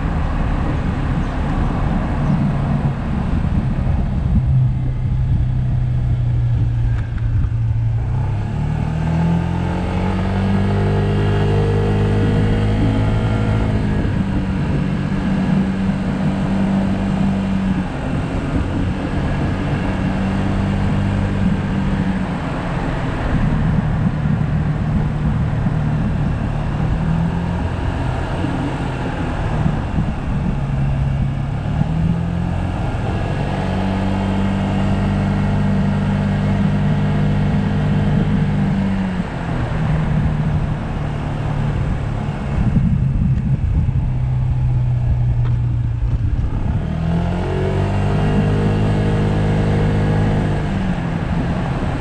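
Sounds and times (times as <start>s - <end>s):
wind noise: 0.0s - 52.0s.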